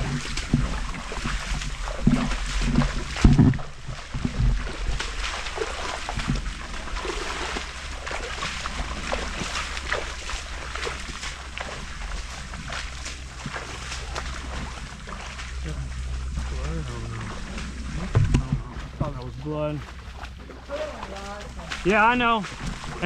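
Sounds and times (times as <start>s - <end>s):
footsteps sloshing through swamp water: 0.0s - 23.0s
low rumble on microphone: 0.0s - 23.0s.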